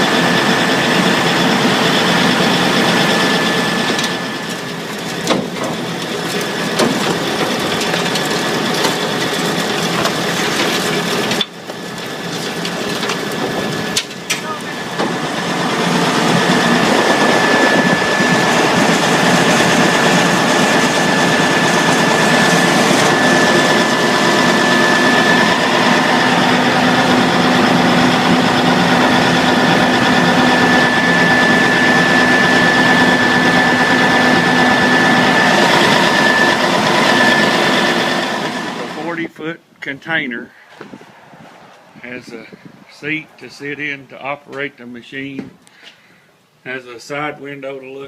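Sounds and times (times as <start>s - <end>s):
grinder engine running: 0.0s - 39.4s
high whine: 0.0s - 48.0s.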